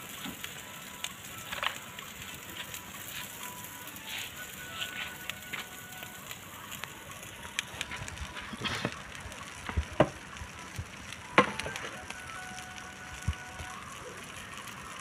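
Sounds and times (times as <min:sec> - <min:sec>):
charcoal fire crackling: 0:00.0 - 0:15.0.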